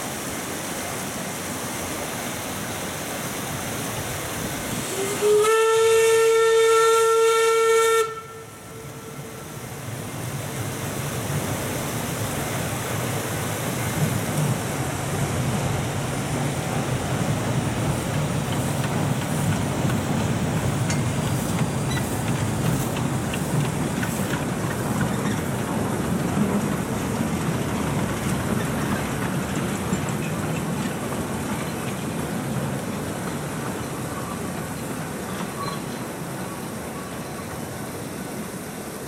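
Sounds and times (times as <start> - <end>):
steam train rumbling past: 0.0 - 39.0.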